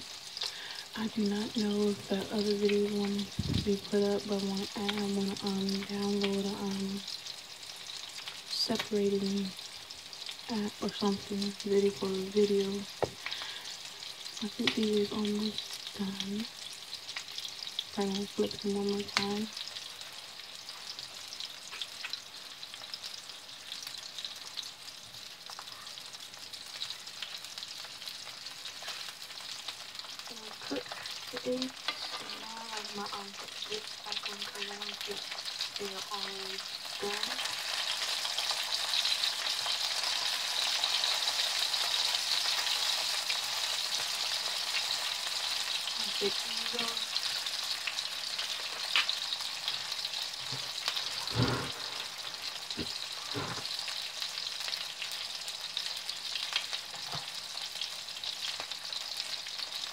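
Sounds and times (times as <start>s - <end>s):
meat sizzling in a frying pan: 0.0s - 59.9s.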